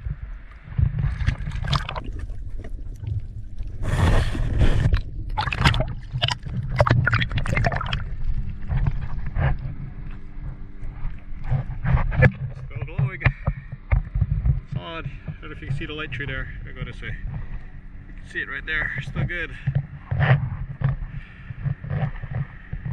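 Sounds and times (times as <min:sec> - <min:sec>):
low rumble: 0:00.0 - 0:22.9
water splashing and sloshing: 0:00.0 - 0:22.9.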